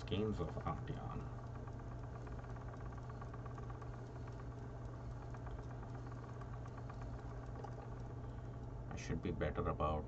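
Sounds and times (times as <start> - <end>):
spinning wheel humming and clicking: 0.0 - 10.0.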